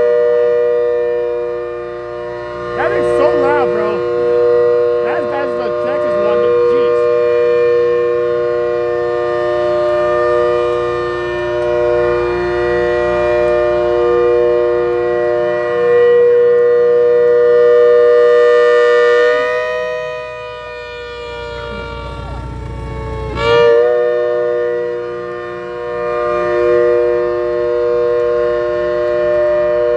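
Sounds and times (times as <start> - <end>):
siren sounding a chord: 0.0 - 29.9.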